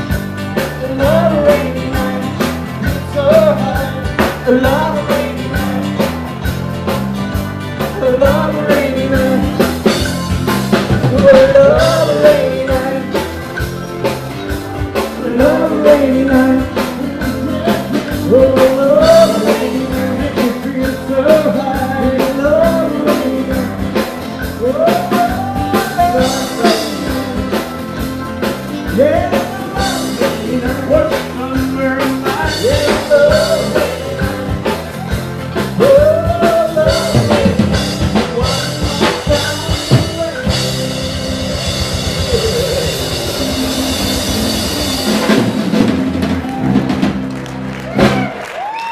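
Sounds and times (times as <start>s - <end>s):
band playing rock and roll: 0.0s - 48.9s.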